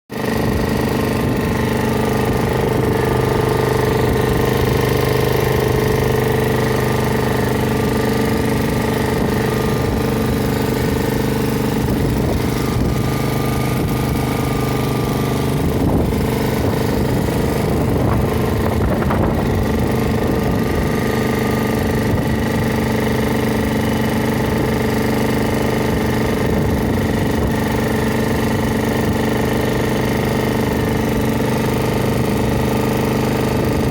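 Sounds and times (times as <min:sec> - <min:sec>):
lawnmower engine running: 0:00.1 - 0:33.9.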